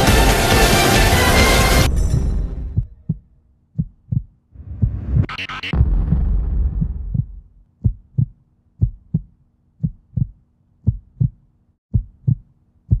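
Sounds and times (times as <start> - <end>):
heartbeat thumps: 2.6 - 13.0.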